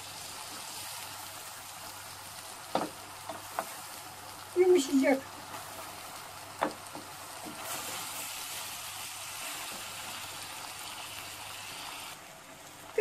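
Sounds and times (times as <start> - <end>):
mushrooms sizzling in oil: 0.0 - 13.0.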